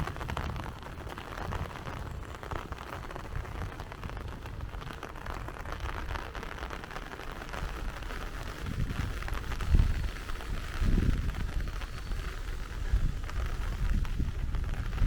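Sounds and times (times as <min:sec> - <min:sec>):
steady rain pattering: 0:00.0 - 0:15.0.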